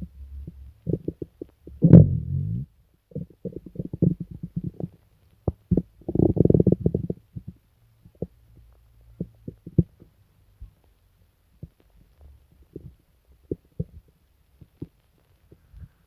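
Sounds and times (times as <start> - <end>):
stomach gurgling: 0.0 - 8.4, 9.2 - 10.2, 11.6 - 16.0
faint low hum: 0.0 - 16.0.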